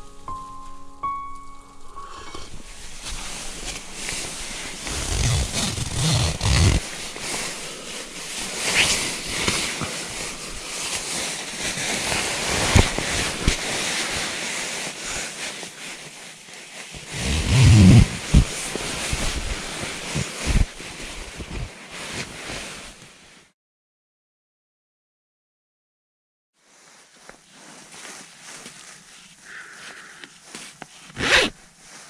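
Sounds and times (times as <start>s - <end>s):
fabric rustling on microphone: 2.4s - 23.5s, 26.6s - 32.0s.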